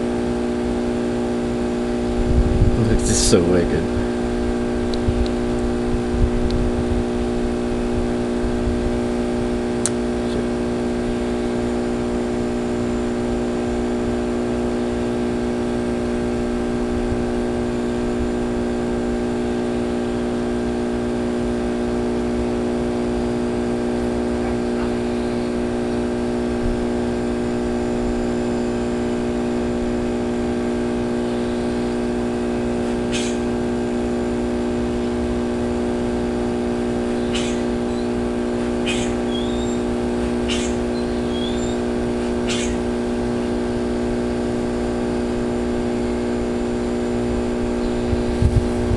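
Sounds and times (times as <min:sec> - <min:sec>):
steady machine hum: 0:00.0 - 0:48.9.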